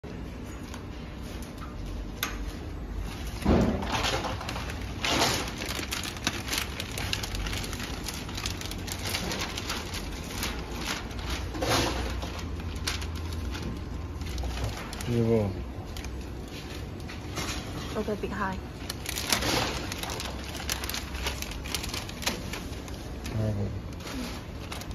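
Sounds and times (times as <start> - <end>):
steady low hum: 0.0 - 24.9
plastic film crinkling and rustling: 0.2 - 24.9.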